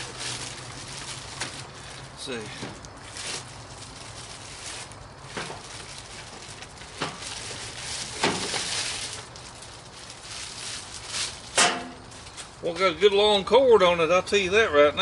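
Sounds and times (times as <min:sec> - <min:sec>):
packaging rustling and scraping: 0:00.0 - 0:12.6.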